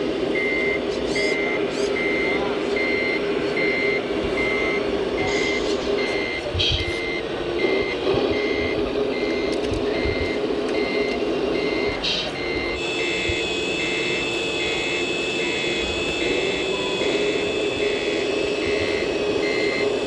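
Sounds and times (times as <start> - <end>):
reversing beeper: 0.3 - 20.0.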